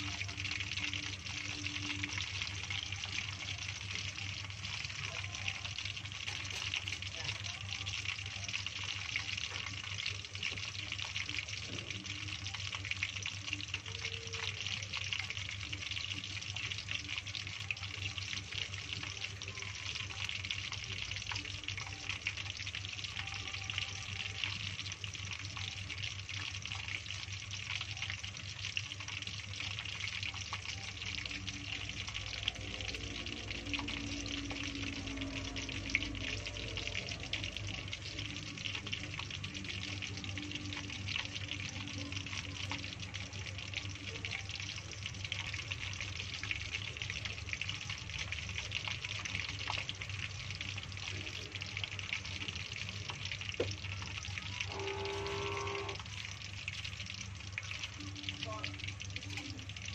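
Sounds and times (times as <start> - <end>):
hot oil sizzling and crackling: 0.0 - 59.9.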